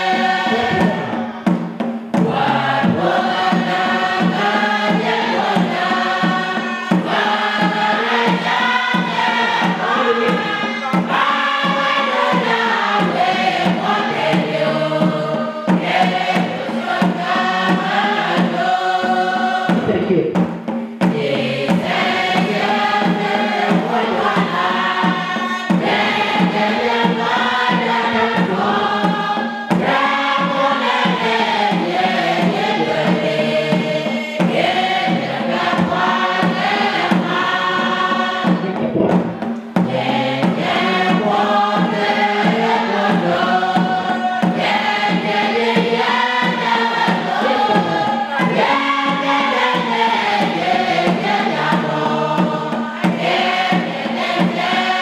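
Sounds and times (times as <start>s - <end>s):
women's choir singing: 0.0s - 20.2s, 21.0s - 55.0s
steady beat: 0.0s - 55.0s.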